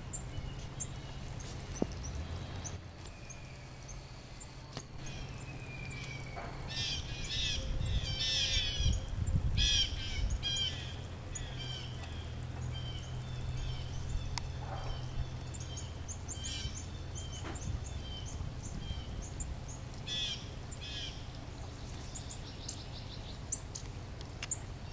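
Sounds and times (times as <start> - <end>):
birds chirping: 0.0 - 24.9
low steady hum: 0.0 - 24.9.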